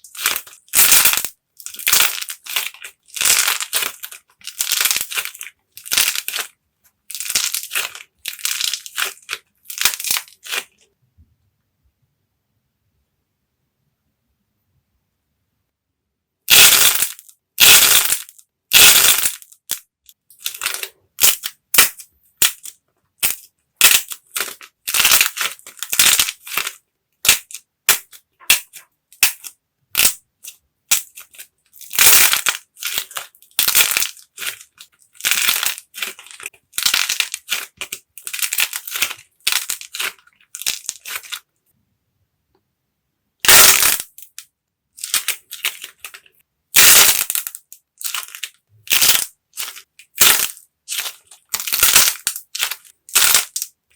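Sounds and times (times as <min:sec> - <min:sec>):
dried clay cracking and crunching: 0:00.0 - 0:10.8, 0:16.5 - 0:41.5, 0:45.0 - 0:53.8.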